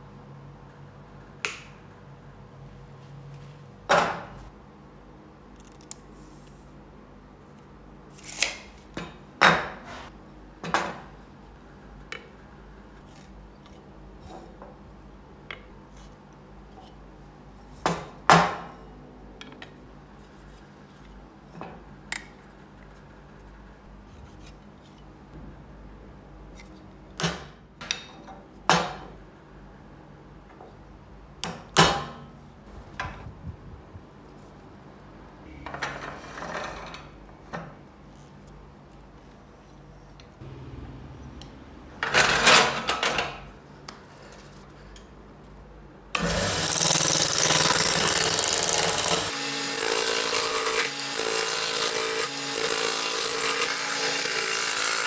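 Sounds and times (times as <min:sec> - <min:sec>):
low workshop hum: 0:00.0 - 0:55.0.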